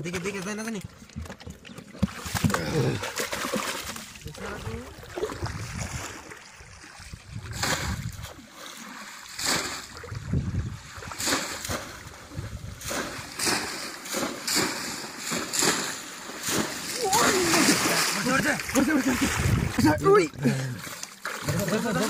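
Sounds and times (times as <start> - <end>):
fish traps splashing in shallow water: 0.0 - 22.0.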